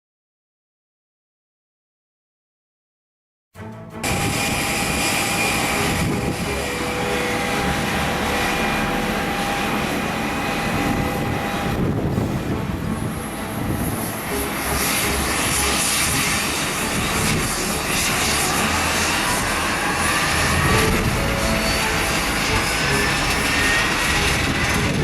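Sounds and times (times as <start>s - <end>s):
jet engines running: 4.0s - 25.0s.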